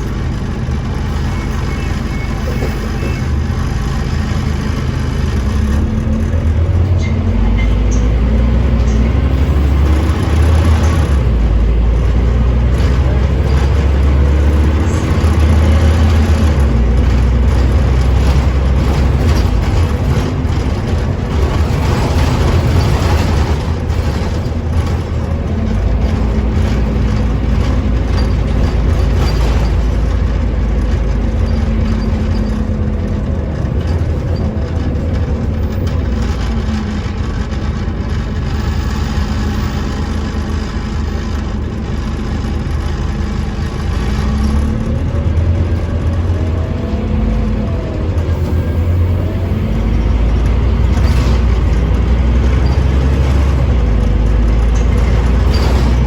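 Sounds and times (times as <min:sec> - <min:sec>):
bus engine changing gear: 0:00.0 - 0:56.0.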